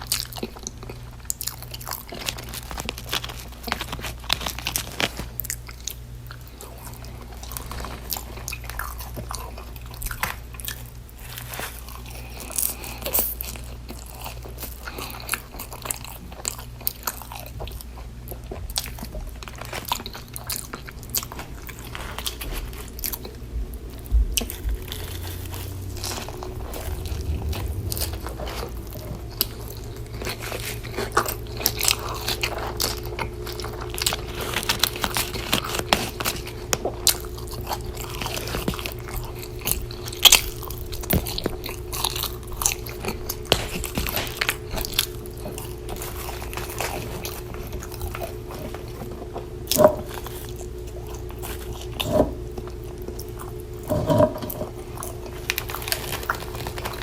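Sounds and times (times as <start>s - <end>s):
close biting and chewing: 0.0s - 57.0s
steady low hum: 0.0s - 57.0s.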